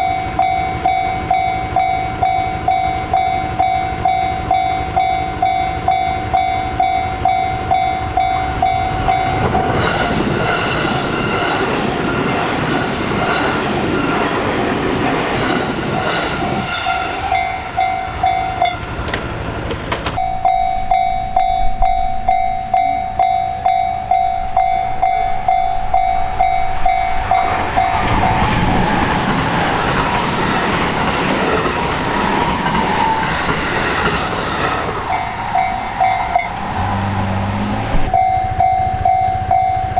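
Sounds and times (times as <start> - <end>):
electric train passing: 0.0 - 39.9
railroad crossing warning bell: 0.0 - 39.9
wheel and rail noise: 0.0 - 39.9.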